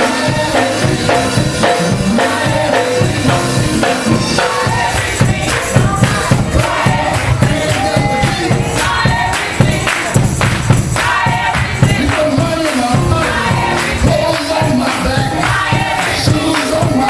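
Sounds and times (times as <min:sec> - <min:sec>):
drums keeping a beat: 0:00.0 - 0:17.0
gospel choir singing with band: 0:00.0 - 0:17.0.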